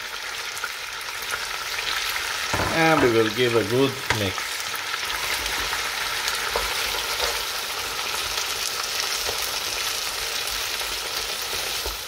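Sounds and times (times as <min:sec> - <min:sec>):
meat frying in oil: 0:00.0 - 0:12.0.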